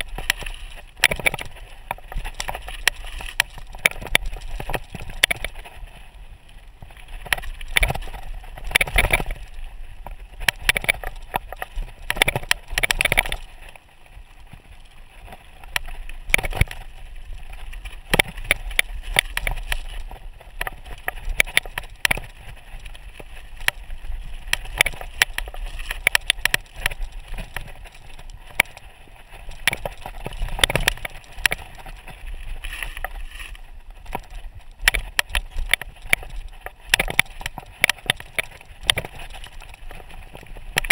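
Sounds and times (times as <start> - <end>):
bike rattling over rocks: 0.0 - 40.9
bike tyres rolling over gravel: 0.0 - 40.9.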